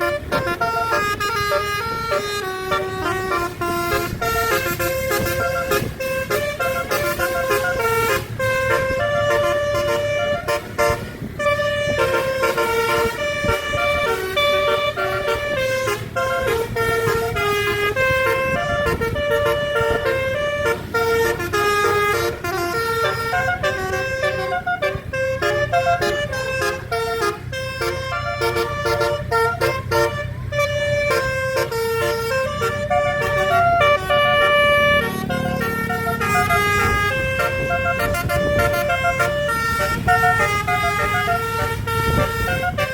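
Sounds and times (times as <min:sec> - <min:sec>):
bus engine humming: 0:00.0 - 0:42.9
bus horn playing a melody: 0:00.0 - 0:42.9.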